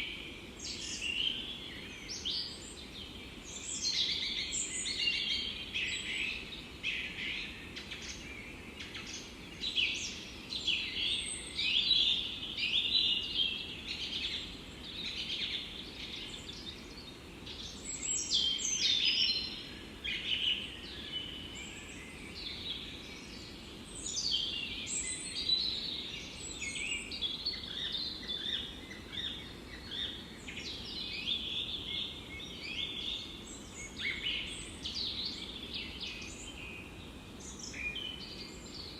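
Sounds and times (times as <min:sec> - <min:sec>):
soft steady hiss: 0:00.0 - 0:38.9
songbirds singing in chorus: 0:00.0 - 0:38.9.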